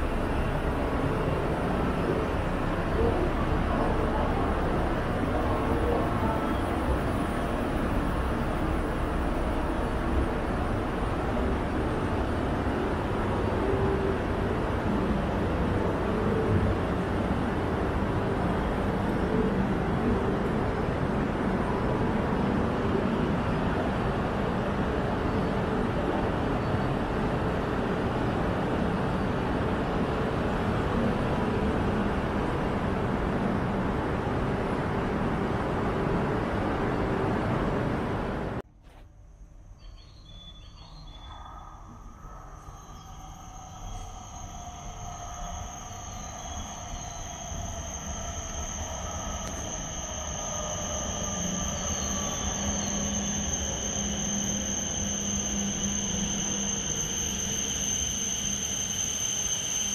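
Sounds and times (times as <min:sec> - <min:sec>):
station platform noise: 0:00.0 - 0:39.0, 0:43.2 - 0:59.9.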